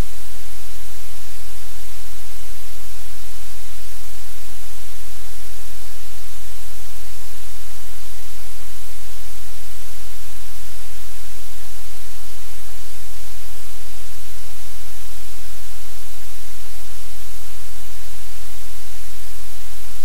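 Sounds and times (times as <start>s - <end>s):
static hiss: 0.0s - 20.0s.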